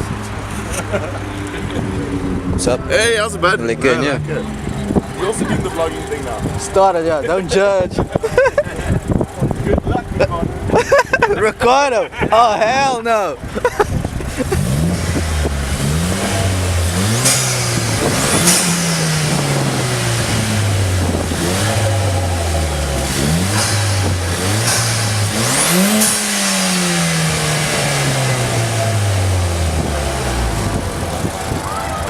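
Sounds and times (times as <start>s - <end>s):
car engine revving: 0.0s - 11.6s, 13.4s - 32.0s.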